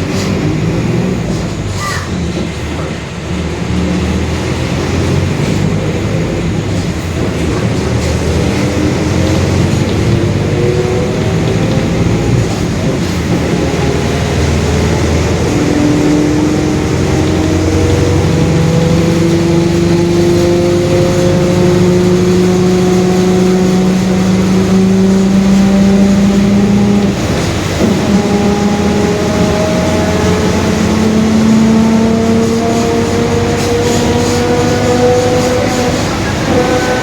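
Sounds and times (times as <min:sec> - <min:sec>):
bus diesel engine accelerating: 0:00.0 - 0:37.0
droning differential hum: 0:03.2 - 0:37.0.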